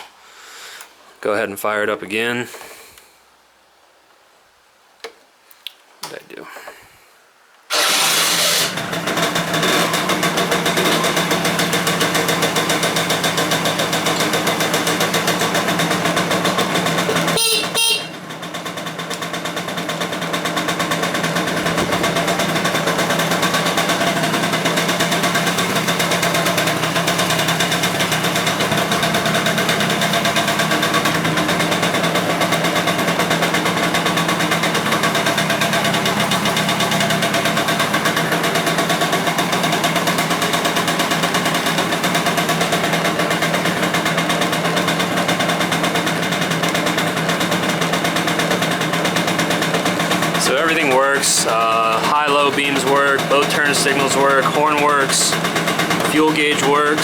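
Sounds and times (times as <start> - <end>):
scooter engine buzzing: 7.7 - 57.0.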